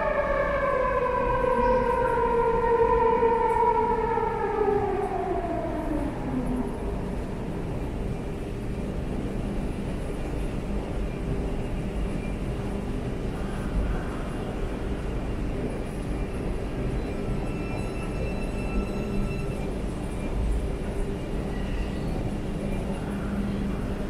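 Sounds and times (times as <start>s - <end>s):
rumble of slowing train: 0.0s - 24.0s.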